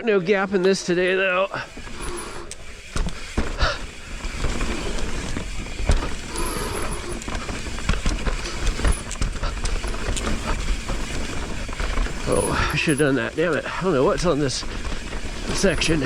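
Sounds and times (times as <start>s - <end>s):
bike tyres on dirt and rocks: 0.0s - 16.0s
bike knocks and rattles: 1.6s - 16.0s.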